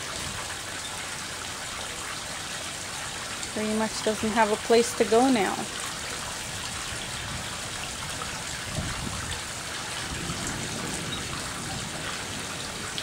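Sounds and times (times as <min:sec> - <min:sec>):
rushing trickling water: 0:00.0 - 0:13.0.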